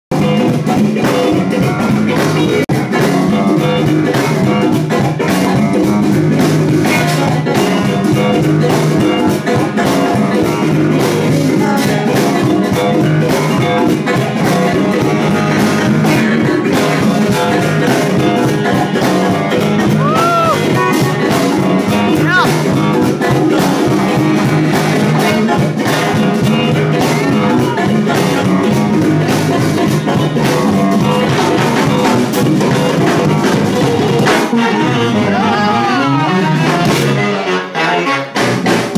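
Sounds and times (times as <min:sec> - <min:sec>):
live band playing loudly: 0:00.1 - 0:38.9.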